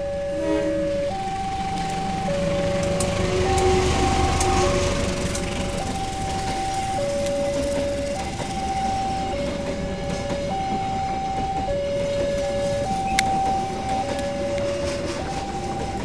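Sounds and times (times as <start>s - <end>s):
rumble of train coaches rolling: 0.0s - 16.0s
two-tone level crossing alarm: 0.0s - 16.0s.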